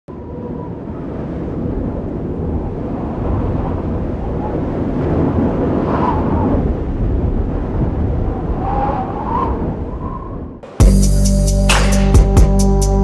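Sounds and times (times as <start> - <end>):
whistling wind glide: 0.1 - 10.6
low rumbling wind: 0.1 - 10.8.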